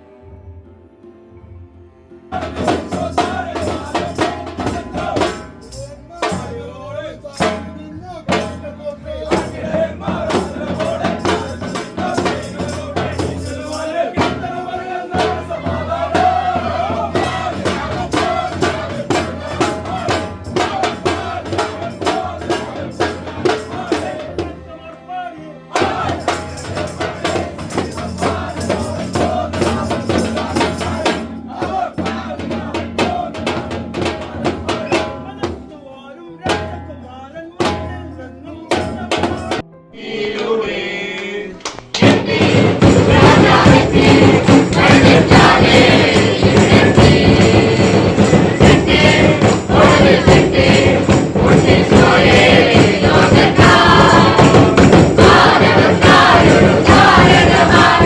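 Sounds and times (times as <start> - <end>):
group singing carols: 2.3 - 58.0
tambourine: 2.4 - 24.4, 25.8 - 35.2, 38.7 - 39.6, 42.4 - 58.0
drum: 2.4 - 24.6, 25.8 - 35.8, 36.5 - 37.0, 37.6 - 39.6, 41.8 - 58.0.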